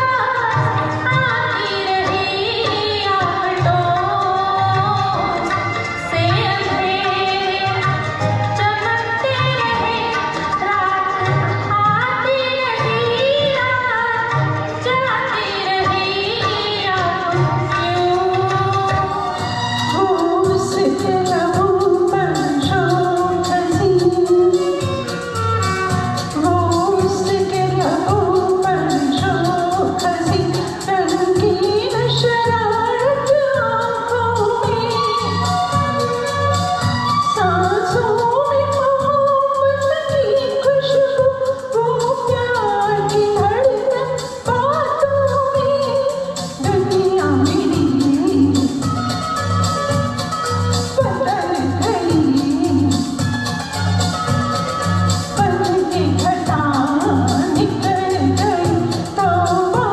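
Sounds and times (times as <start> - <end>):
instrumental accompaniment with beat: 0.0 - 59.9.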